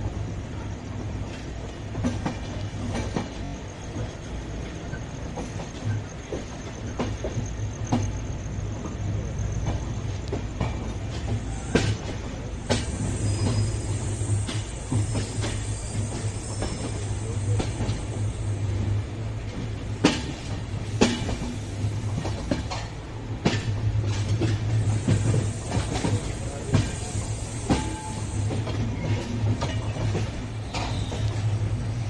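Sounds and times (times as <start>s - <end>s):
train low hum: 0.0s - 32.0s
wheels clacking on rail joints: 0.9s - 32.0s.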